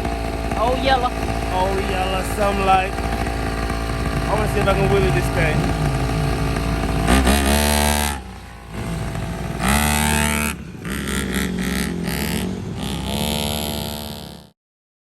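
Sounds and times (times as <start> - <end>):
small two-stroke engine revving: 0.0 - 14.6.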